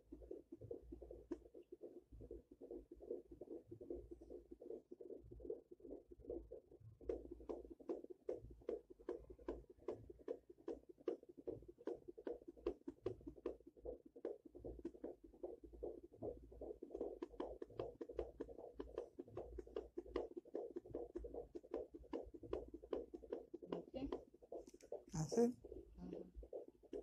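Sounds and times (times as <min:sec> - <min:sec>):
fetal heartbeat on doppler: 0:00.0 - 0:27.0.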